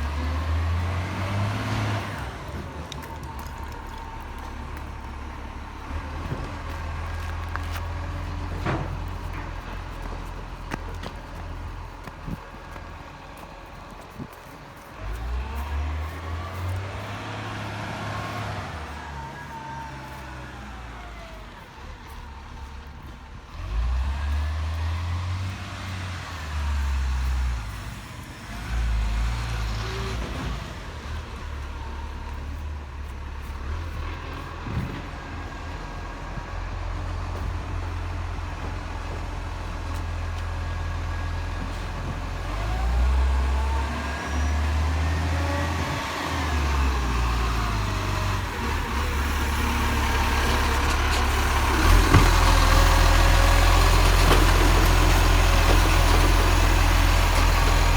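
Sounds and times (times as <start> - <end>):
garbage truck engine revving: 0.0 - 14.2, 14.8 - 57.9.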